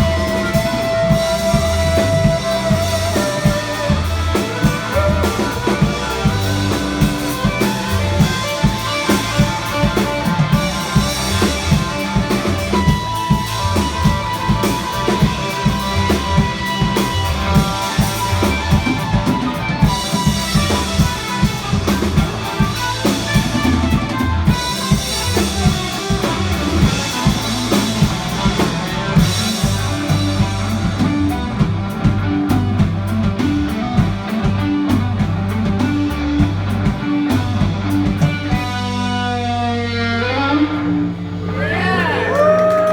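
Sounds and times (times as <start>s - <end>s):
drum kit beat: 0.0s - 39.1s
live band playing: 0.0s - 42.9s.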